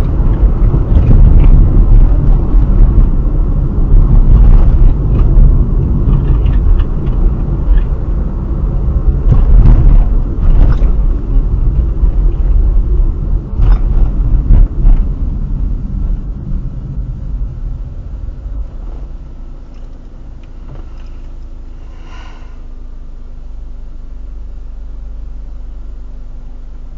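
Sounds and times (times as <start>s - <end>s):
car road rumble: 0.0s - 26.9s.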